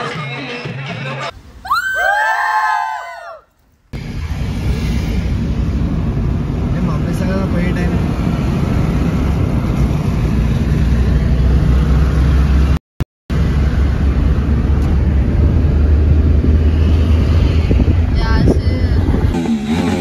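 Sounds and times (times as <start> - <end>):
car engine and road noise: 3.5 - 20.0.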